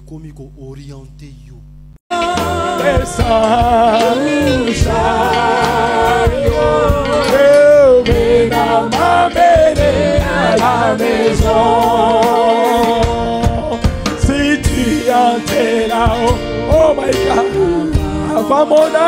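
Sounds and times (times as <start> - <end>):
bass and steady beat: 0.9 - 18.9
choir singing: 2.1 - 19.0
man singing: 2.1 - 19.0.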